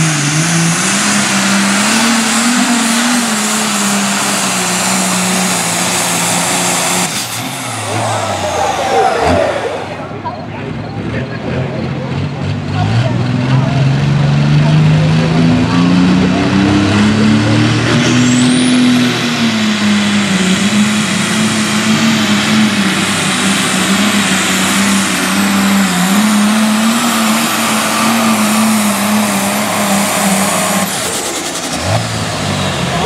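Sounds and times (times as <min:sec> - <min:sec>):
high turbo whine: 0:00.0 - 0:12.8, 0:13.4 - 0:33.0
diesel engine under heavy load: 0:00.0 - 0:33.0.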